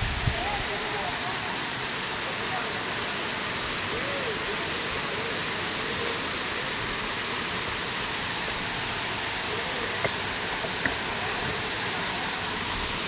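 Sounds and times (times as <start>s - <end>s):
waterfall rushing over rock: 0.0s - 13.0s.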